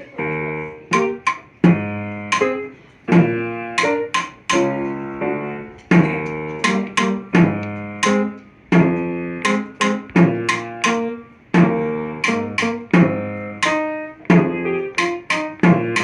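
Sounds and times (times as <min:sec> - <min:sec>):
sharply attacked ringing chords: 0:00.4 - 0:13.7.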